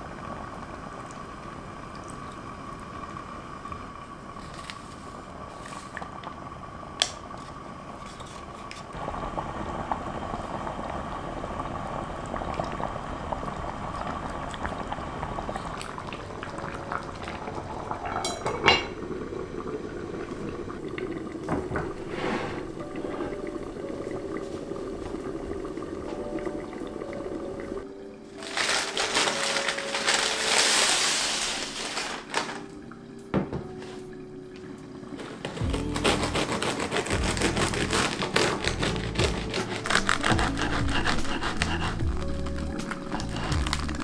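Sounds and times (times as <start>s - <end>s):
stew bubbling in a pot: 0.0s - 28.9s, 34.8s - 44.0s.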